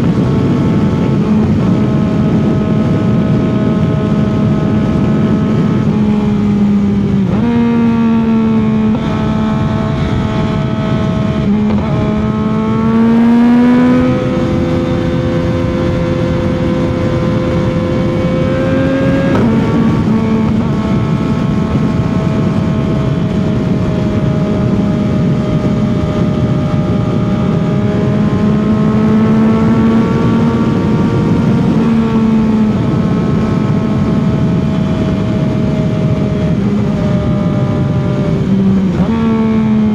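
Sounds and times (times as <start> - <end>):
motorcycle engine at speed: 0.0 - 39.9
wind rush: 0.0 - 39.9.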